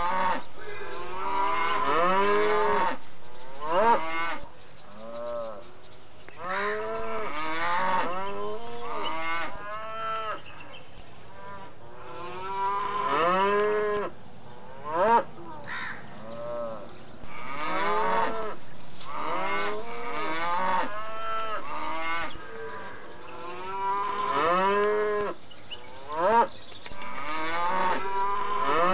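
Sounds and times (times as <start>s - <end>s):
cattle mooing: 0.0s - 5.7s, 6.4s - 10.5s, 11.3s - 26.5s, 27.1s - 28.9s.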